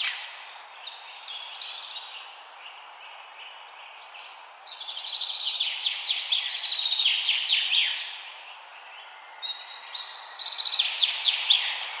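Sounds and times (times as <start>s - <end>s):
songbird chirping and trilling: 0.0s - 12.0s.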